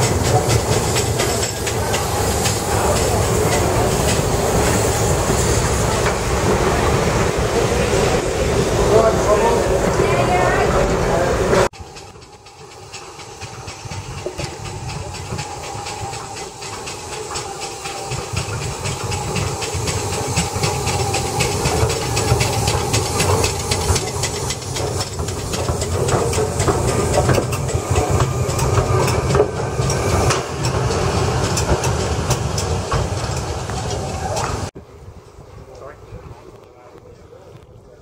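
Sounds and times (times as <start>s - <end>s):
steam hissing: 0.0s - 34.8s
locomotive wheels clicking: 0.0s - 35.9s.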